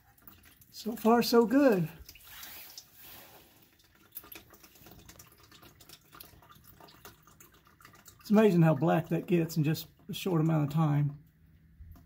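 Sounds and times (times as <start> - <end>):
oil trickling into plastic tub: 0.0 - 12.0.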